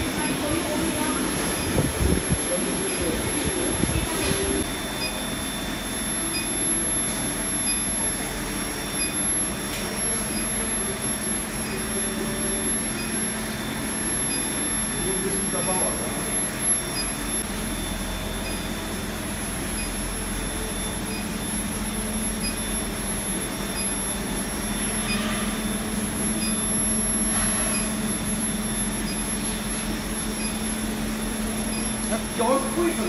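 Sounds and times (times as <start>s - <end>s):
electrical hum: 0.0s - 33.0s
thin high whine: 0.0s - 33.0s.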